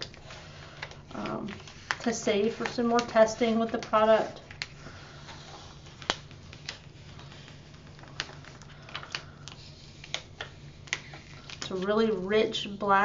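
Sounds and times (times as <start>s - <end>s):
vinyl peeling ticks and crackles: 0.0s - 12.8s.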